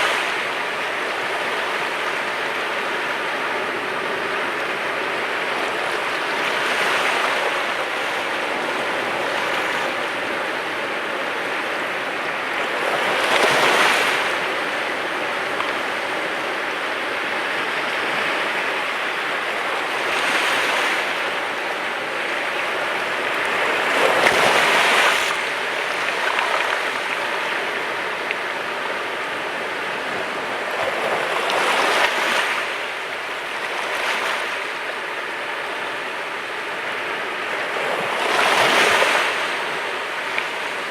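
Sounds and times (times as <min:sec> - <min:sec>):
sea waves breaking on shore: 0:00.0 - 0:40.9
wash of surf: 0:00.0 - 0:40.9.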